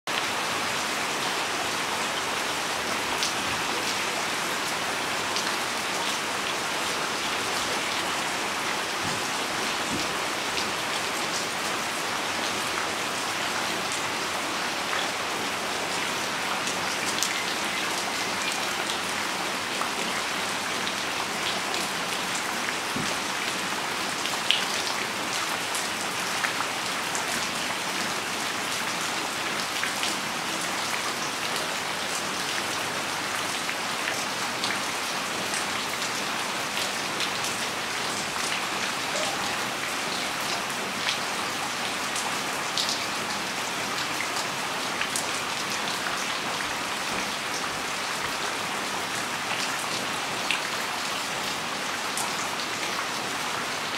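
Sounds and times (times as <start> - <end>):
rain on paving and plants: 0.1 - 53.9.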